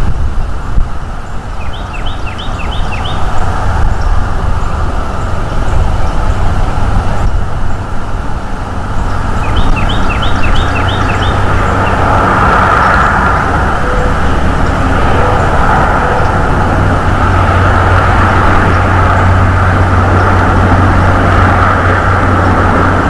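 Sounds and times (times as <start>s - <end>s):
wind rumble on microphone: 0.0s - 23.0s
songbird singing: 1.2s - 20.5s.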